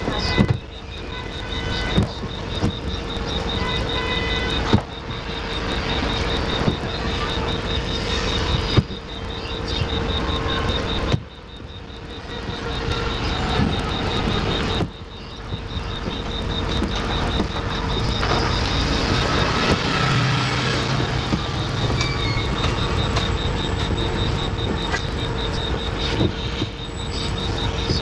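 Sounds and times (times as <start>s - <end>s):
rapid pulsing high chirp: 0.0s - 28.0s
traffic: 0.0s - 28.0s.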